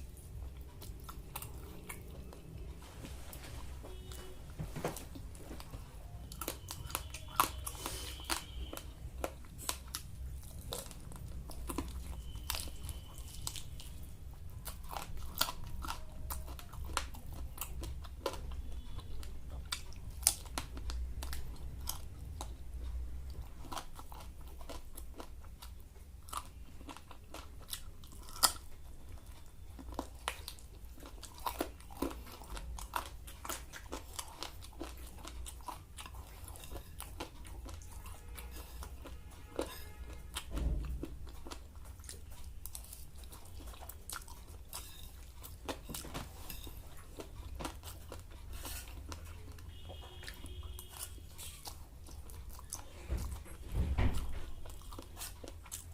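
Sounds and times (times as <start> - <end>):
chewing crispy fried food: 0.0 - 55.9.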